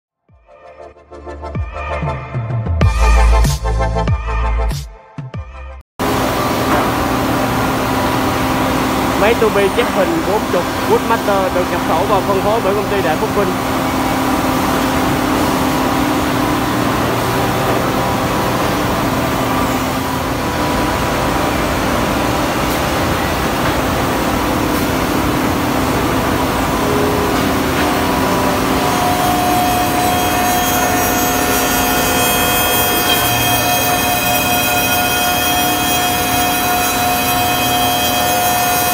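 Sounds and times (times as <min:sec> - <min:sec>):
high machine whine: 0:06.0 - 0:38.9
machine cutting wood: 0:06.0 - 0:38.9.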